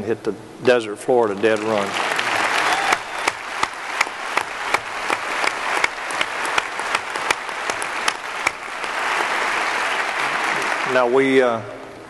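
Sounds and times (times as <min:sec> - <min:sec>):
sharp close-up claps: 0:01.4 - 0:11.0
audience applause: 0:01.4 - 0:11.4.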